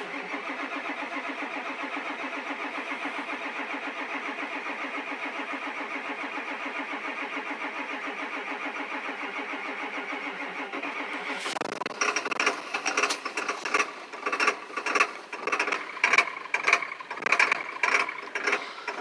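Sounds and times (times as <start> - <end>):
diesel engine cranking slowly: 0.0 - 19.0
engine rough loud sound: 0.0 - 19.0.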